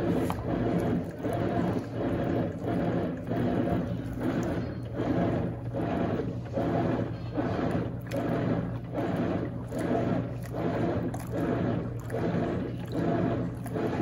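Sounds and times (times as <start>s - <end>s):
agitator swishing water: 0.0s - 14.0s
washing machine motor humming: 0.0s - 14.0s.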